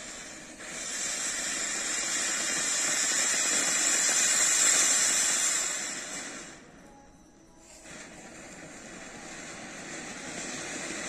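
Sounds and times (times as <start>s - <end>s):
firework fountain hissing: 0.0s - 6.8s, 7.6s - 11.0s.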